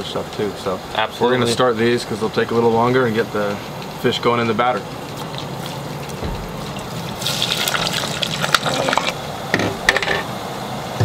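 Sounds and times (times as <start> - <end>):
oil bubbling and sizzling: 0.0 - 11.0.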